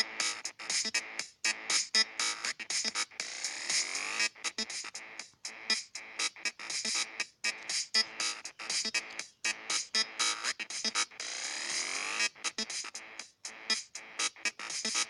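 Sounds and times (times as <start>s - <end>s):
drum machine beat: 0.0s - 15.0s.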